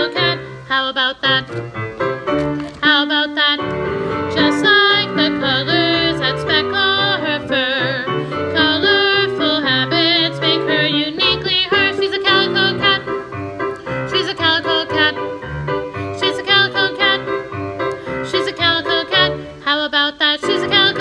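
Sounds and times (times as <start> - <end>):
young voice singing: 0.0 - 1.6, 2.8 - 13.3, 14.0 - 15.4, 16.0 - 17.5, 18.2 - 21.0
piano accompaniment: 0.0 - 21.0.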